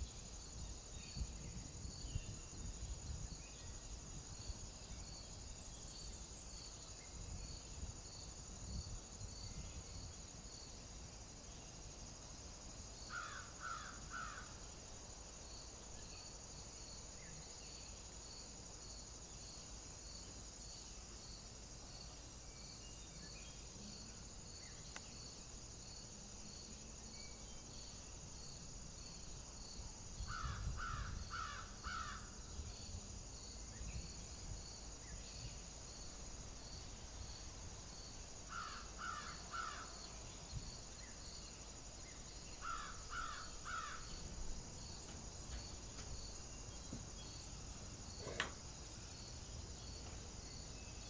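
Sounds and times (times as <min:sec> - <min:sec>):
high insect chorus: 0:00.0 - 0:51.0.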